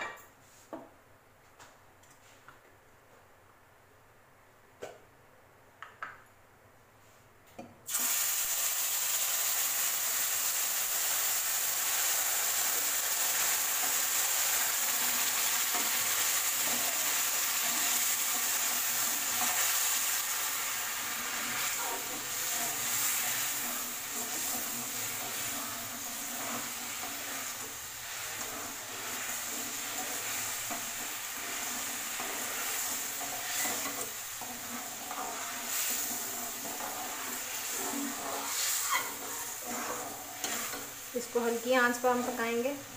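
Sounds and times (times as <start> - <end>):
water sizzling in hot pan: 7.9 - 42.9.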